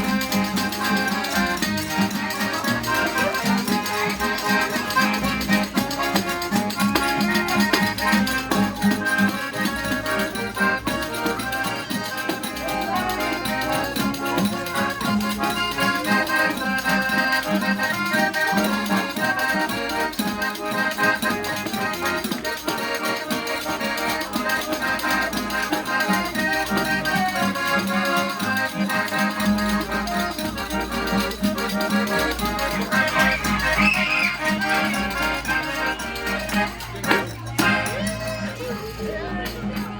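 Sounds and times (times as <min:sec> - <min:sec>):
accordion playing fast dance tune: 0:00.0 - 0:39.9.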